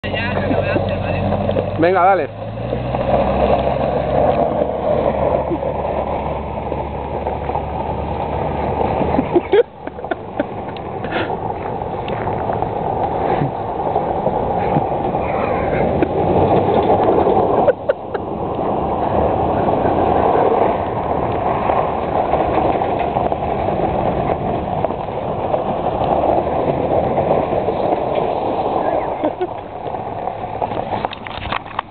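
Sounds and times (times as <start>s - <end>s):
pickup truck engine running: 0.0s - 31.9s.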